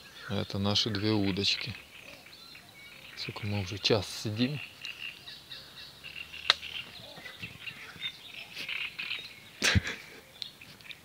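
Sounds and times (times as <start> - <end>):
birds chirping: 0.0 - 11.0
frogs croaking: 0.0 - 11.0.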